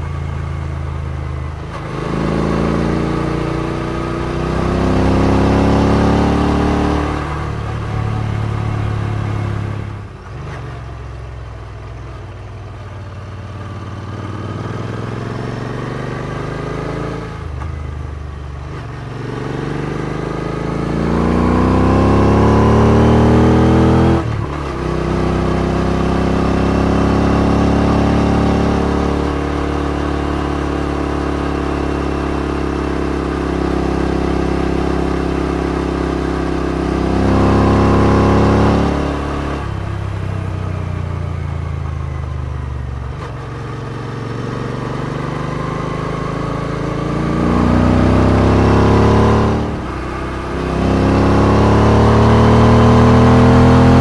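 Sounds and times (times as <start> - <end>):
motorcycle engine revving: 0.0 - 11.0, 18.6 - 54.0.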